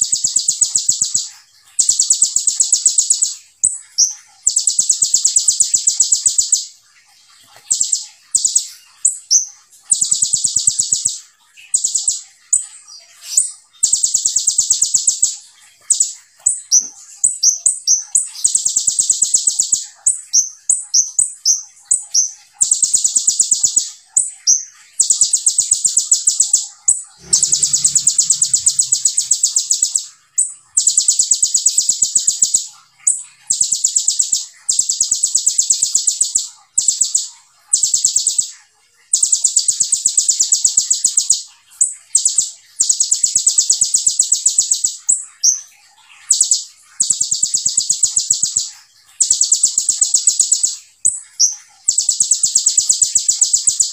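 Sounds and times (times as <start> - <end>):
bird chirping: 0.0 - 53.9
bird singing rapid trills: 0.0 - 53.9.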